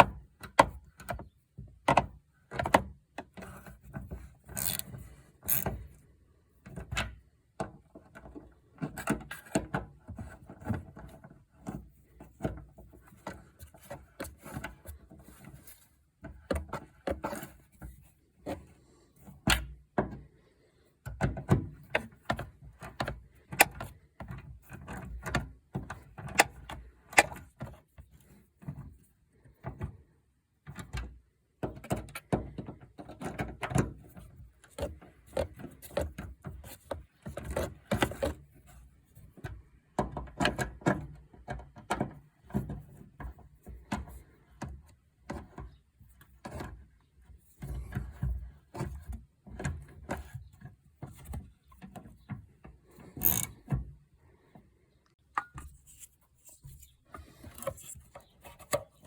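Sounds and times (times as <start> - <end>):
knocks and clunks of handling: 0.0 - 59.0.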